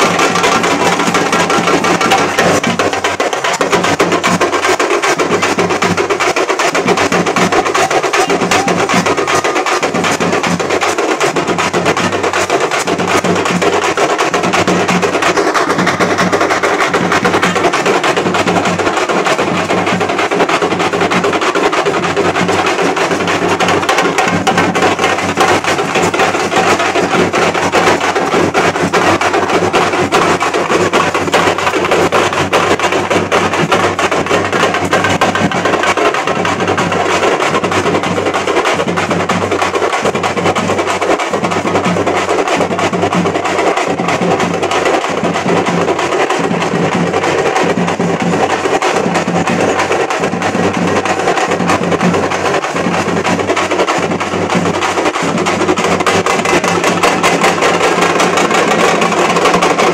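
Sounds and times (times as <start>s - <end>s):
frame drums playing fast beat: 0.0s - 59.9s.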